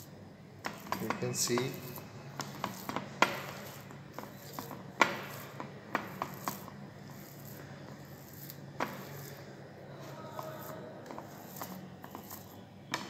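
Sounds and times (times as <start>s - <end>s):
soft mashing: 0.6s - 13.0s.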